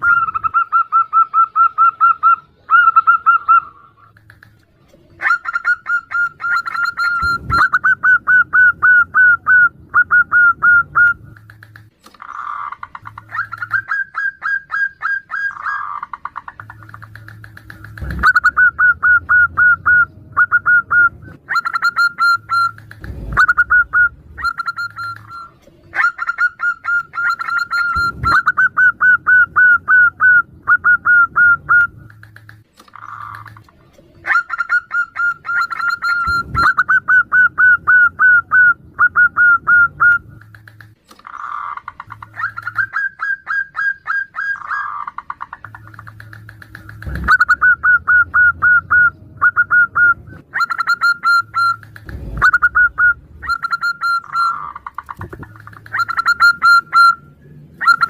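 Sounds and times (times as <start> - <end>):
doves cooing: 0.0 - 58.0.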